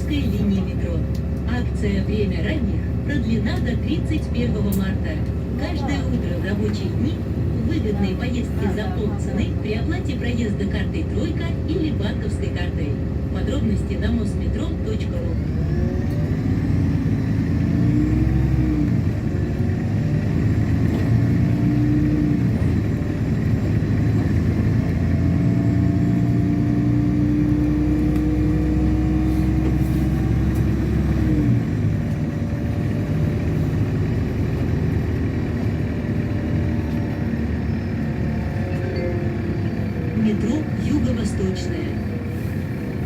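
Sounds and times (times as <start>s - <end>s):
bus engine whining under load: 0.0s - 43.0s.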